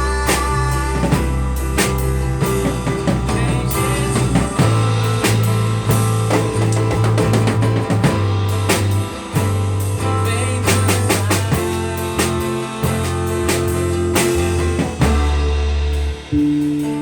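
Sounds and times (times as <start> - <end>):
band playing instrumental: 0.0 - 17.0
drum kit hits: 0.0 - 17.0
sustained bass notes: 0.0 - 17.0.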